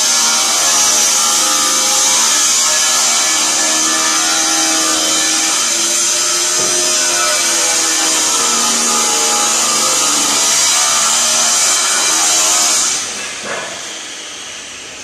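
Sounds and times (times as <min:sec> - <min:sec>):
power tool hissing and humming: 0:00.0 - 0:15.0.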